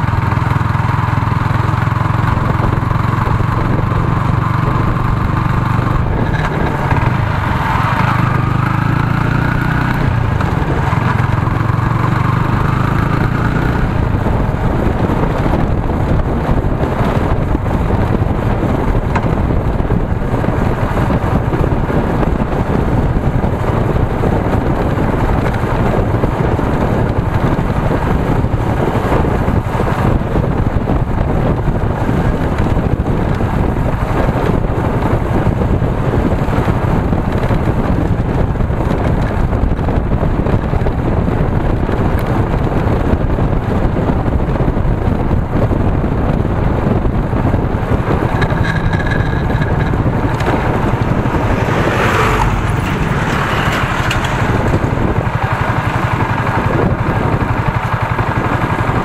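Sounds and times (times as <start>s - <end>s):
motorcycle engine: 0.0s - 59.0s
oncoming vehicles passing: 0.0s - 59.0s
road noise: 0.0s - 59.0s
wind rushing over microphone: 0.0s - 59.0s.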